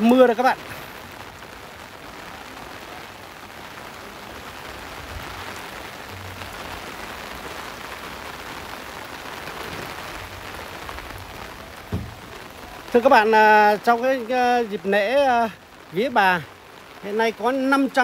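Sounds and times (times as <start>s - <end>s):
steady rain on stone paving: 0.0s - 18.0s.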